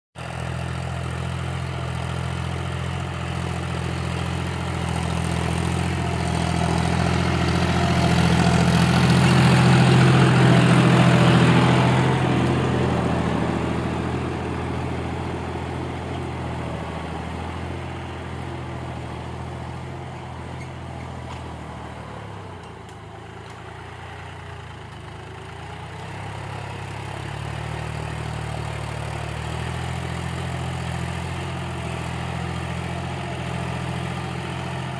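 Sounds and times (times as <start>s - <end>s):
tractor diesel engine under load: 0.2s - 34.9s.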